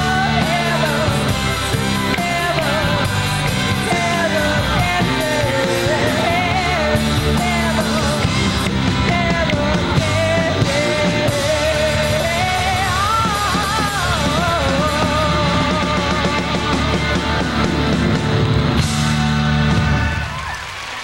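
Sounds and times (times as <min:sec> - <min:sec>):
woman singing: 0:00.0 - 0:17.2
live rock band playing: 0:00.0 - 0:20.6.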